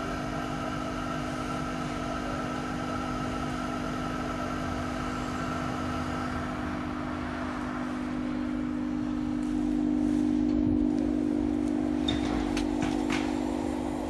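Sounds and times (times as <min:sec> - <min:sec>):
heater fan and burner hum: 0:00.0 - 0:14.0.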